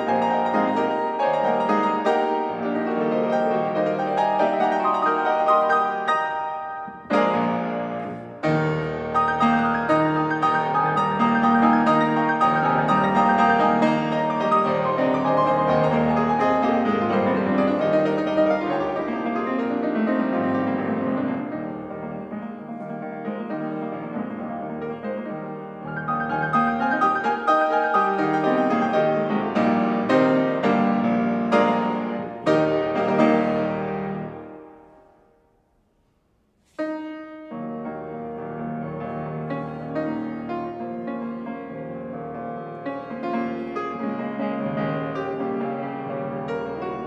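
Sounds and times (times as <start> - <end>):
classical piano playing: 0.0 - 35.9, 36.7 - 47.0.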